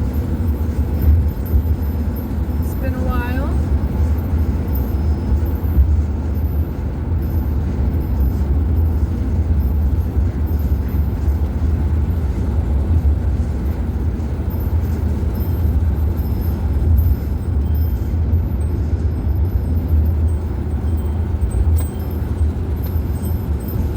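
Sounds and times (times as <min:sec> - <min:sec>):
road and engine rumble in van: 0:00.0 - 0:23.9.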